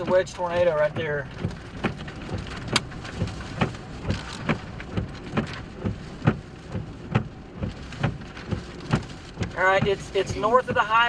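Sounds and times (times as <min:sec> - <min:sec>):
heavy rain drumming on vehicle: 0:00.0 - 0:11.0.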